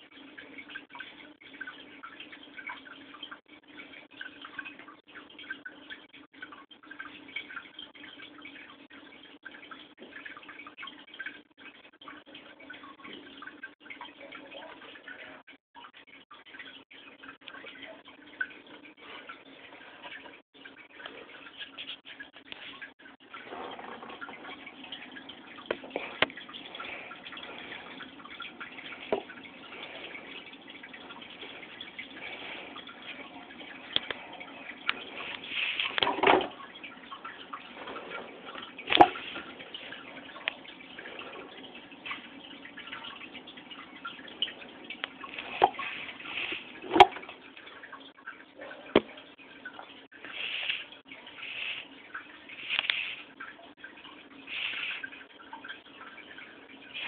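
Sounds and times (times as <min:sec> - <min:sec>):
sharp drips and splashes: 0:00.0 - 0:57.0
water trickling and dripping: 0:00.0 - 0:57.0.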